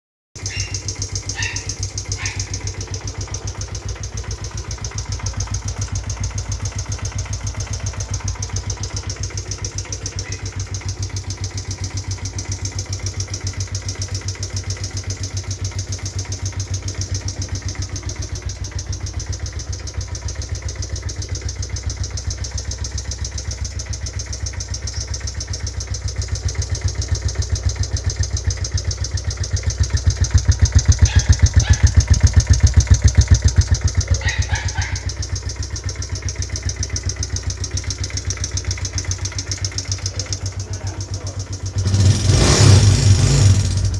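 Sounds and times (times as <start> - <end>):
motorcycle engine knocking: 0.4 - 43.9.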